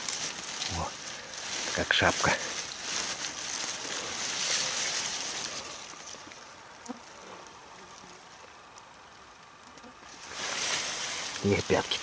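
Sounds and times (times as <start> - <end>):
grass rustling: 0.0 - 12.0.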